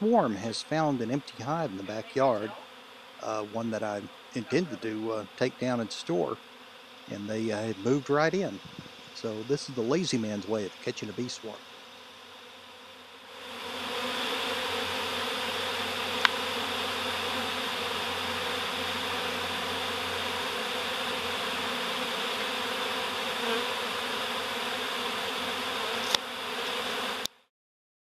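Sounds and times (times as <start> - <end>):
bees buzzing: 0.0 - 27.3.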